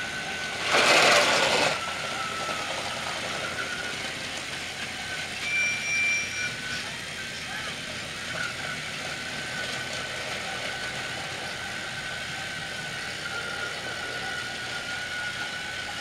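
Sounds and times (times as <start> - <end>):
thin steady whine: 0.0 - 16.0
toy train motors whirring: 0.0 - 16.0
trains rattling on plastic track: 0.0 - 16.0.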